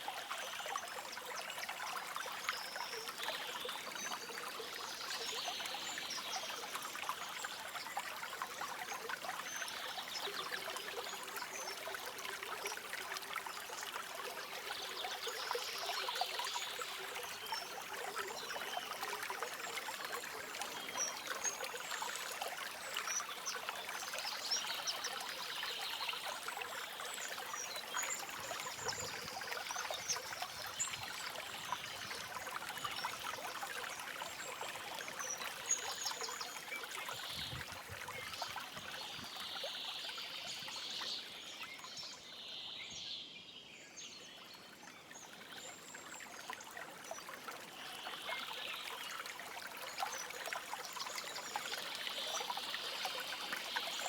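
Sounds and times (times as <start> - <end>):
stream trickling and babbling: 0.0 - 54.0.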